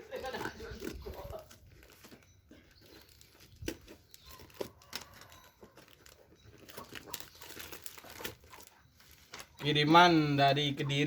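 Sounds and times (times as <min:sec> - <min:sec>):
plastic packaging crinkling and tearing: 0:00.0 - 0:09.9.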